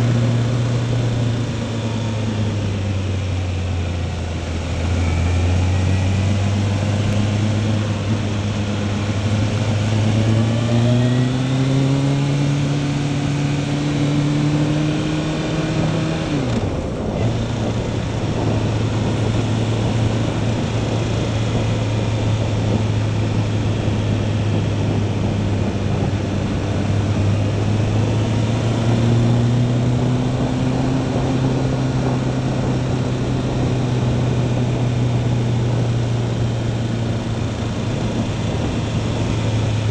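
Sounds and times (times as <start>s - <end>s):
motorcycle engine accelerating: 0.0s - 39.9s
wind rush over microphone: 0.0s - 39.9s.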